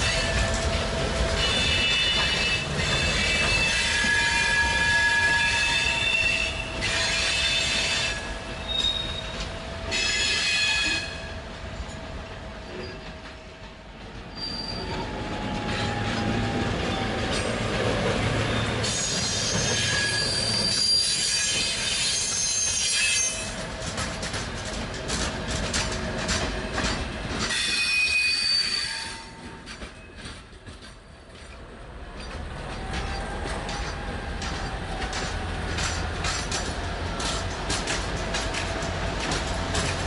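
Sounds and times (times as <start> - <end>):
train wheels squealing on rails: 0.0 - 40.0.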